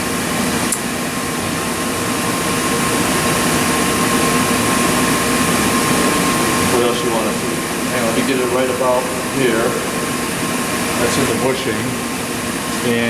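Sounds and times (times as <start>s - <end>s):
drilling machine humming: 0.0s - 13.0s.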